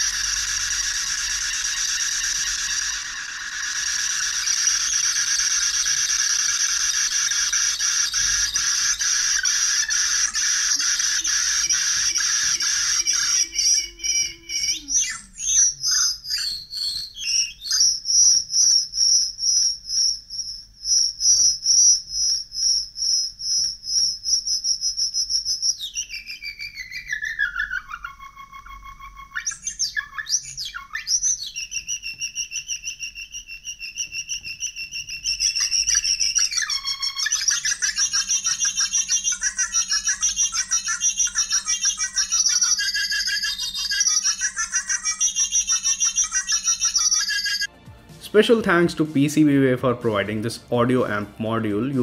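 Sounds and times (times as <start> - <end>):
electronic synth chirps and whistles: 0.0 - 52.0.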